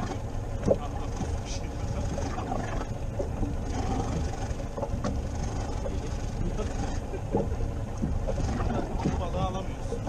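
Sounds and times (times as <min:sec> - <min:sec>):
wind and sea rumble: 0:00.0 - 0:10.0.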